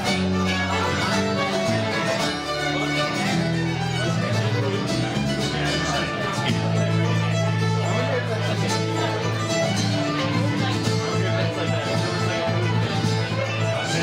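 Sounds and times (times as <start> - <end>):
fiddle playing folk tune: 0.0 - 14.0
guitar accompaniment: 0.0 - 14.0.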